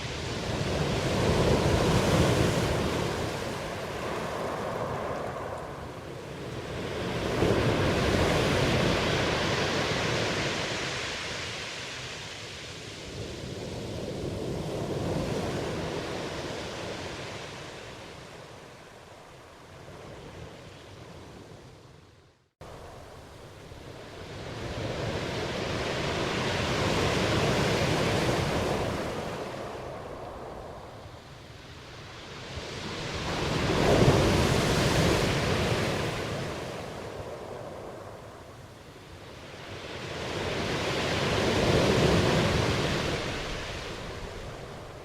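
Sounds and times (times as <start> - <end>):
ocean waves breaking: 0.0 - 18.5, 22.6 - 45.0.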